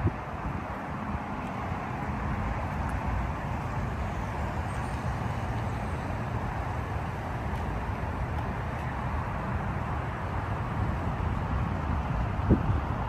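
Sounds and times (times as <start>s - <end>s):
low rumble of distant traffic: 0.0s - 13.0s.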